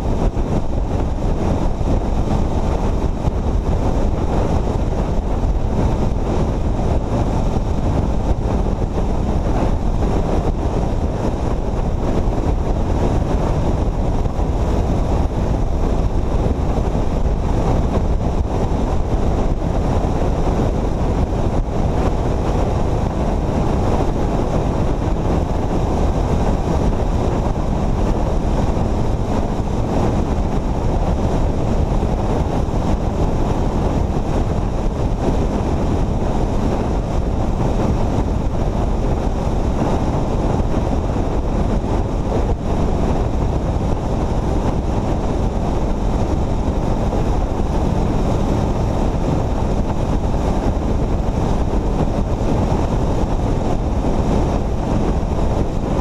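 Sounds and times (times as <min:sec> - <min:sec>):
road and engine noise: 0:00.0 - 0:56.0
wind rushing on microphone: 0:00.0 - 0:56.0.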